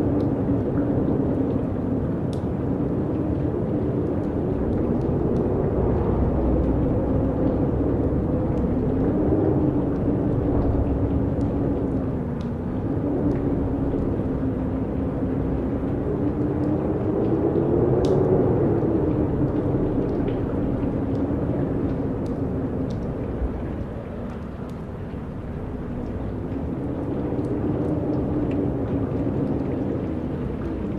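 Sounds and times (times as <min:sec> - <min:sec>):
strong wind moaning: 0:00.0 - 0:30.9.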